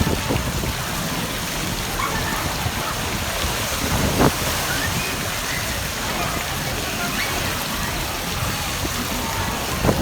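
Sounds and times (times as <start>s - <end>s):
water spraying and splashing: 0.0s - 10.0s.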